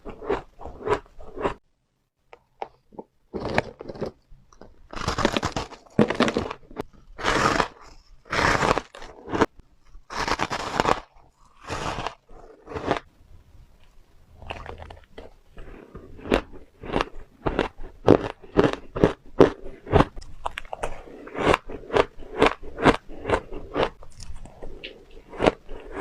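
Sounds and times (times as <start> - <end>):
person chewing ice: 0.0 - 1.6, 3.0 - 13.1, 14.4 - 26.0.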